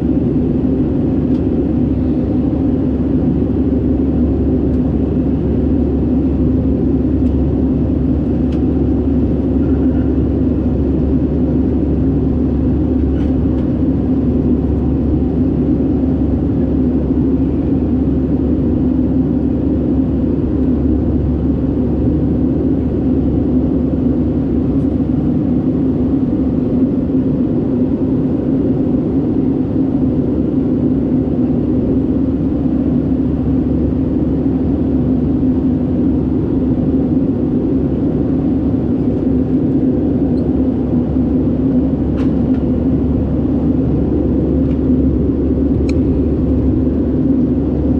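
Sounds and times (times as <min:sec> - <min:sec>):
airplane cabin engine drone: 0:00.0 - 0:47.9.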